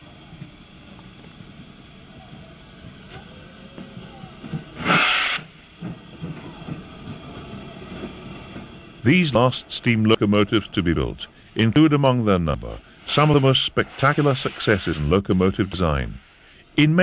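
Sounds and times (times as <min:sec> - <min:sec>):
steam hissing bursts: 0:00.0 - 0:17.0
steam locomotive rumble: 0:00.0 - 0:17.0.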